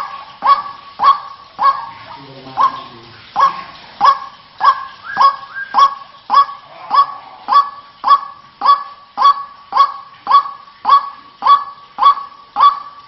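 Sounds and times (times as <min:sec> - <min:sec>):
waterhen harsh call: 0:00.0 - 0:13.0.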